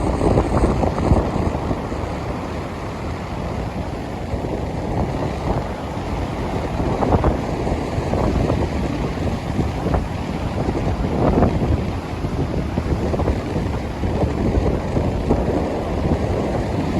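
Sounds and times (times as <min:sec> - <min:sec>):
ocean surf rushing: 0:00.0 - 0:16.9
wind buffeting microphone: 0:00.0 - 0:16.9.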